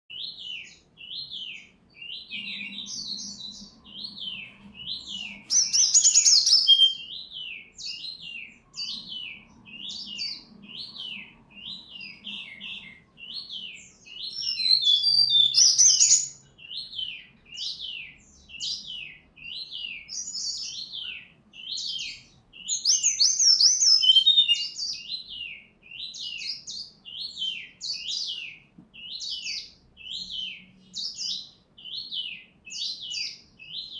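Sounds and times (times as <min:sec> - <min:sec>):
flycatcher singing: 0:00.1 - 0:33.9.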